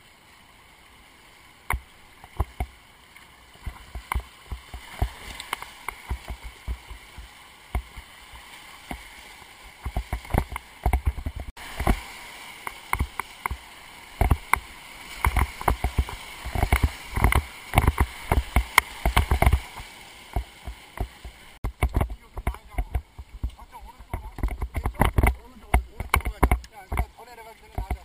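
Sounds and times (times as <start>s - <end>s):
water splashing and slapping: 0.0s - 28.0s
whitewater rapid rushing: 0.0s - 28.0s.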